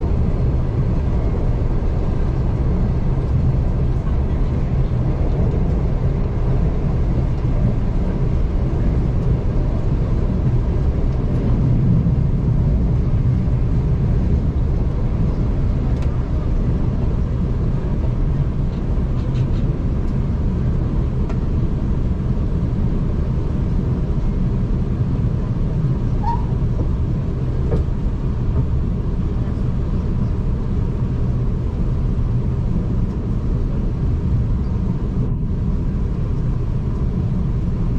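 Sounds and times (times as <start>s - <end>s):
train wheels rumbling: 0.0s - 37.9s.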